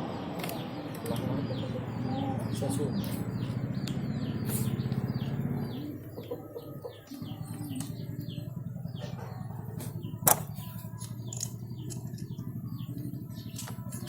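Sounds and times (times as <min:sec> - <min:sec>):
low rhythmic rumble: 0:00.0 - 0:14.0
small birds chirping: 0:00.0 - 0:14.0.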